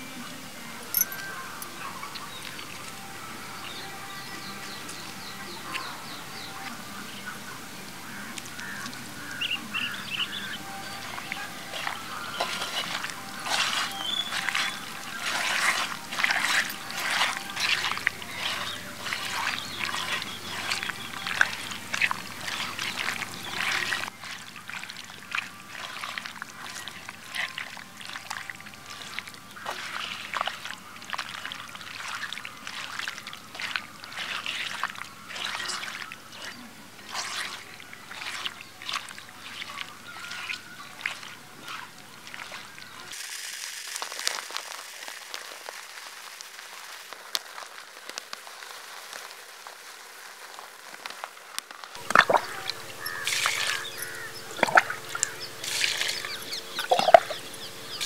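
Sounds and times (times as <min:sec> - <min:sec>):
hands squelching prawns in marinade: 0:08.1 - 0:49.7, 0:52.0 - 0:58.0
dry rice pouring: 0:10.4 - 0:51.4, 0:52.0 - 0:58.0.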